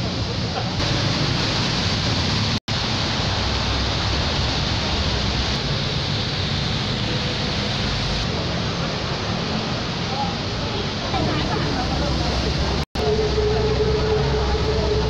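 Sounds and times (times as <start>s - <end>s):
city road traffic roar: 0.0s - 15.0s.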